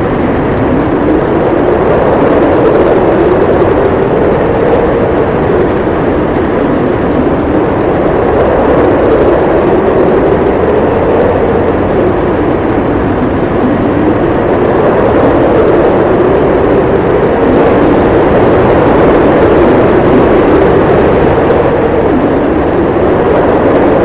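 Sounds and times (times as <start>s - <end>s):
snowstorm wind howling: 0.0s - 24.0s.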